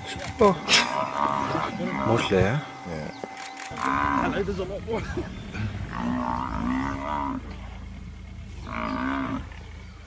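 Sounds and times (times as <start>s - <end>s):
buffalo bawling: 0.0s - 9.8s.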